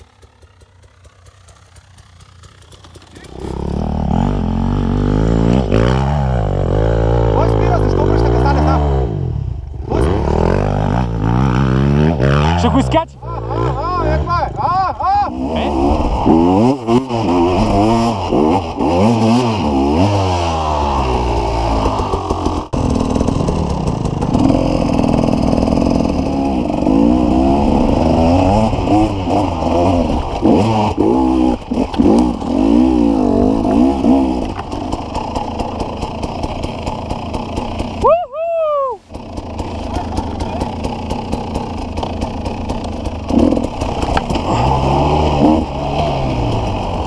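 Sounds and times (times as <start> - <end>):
motorcycle engine revving: 0.0 - 38.3, 39.0 - 47.0.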